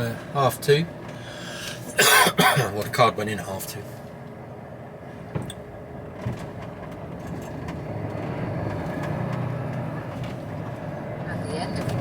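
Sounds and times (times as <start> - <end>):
diesel lorry engine from cab: 0.0 - 12.0.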